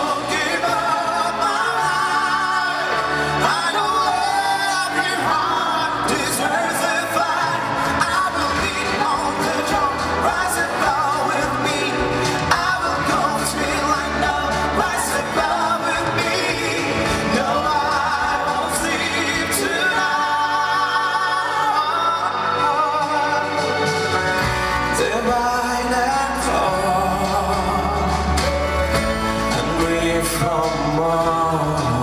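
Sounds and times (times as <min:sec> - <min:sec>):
band backing: 0:00.0 - 0:32.0
man singing: 0:00.0 - 0:32.0.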